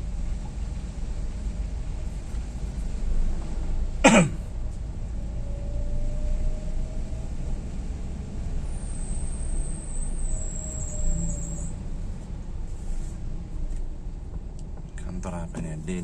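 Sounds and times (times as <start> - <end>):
vehicle rumbling: 0.0 - 16.0.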